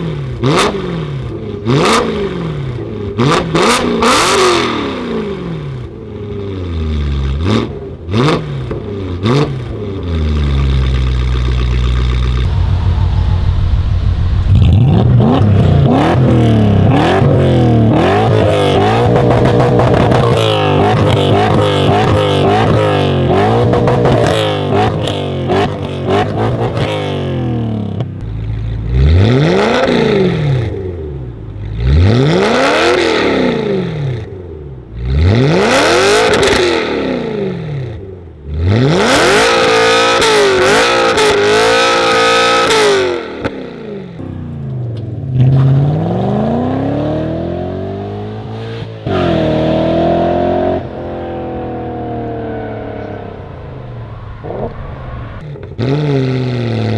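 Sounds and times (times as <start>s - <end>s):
car engine revving: 6.5s - 56.9s.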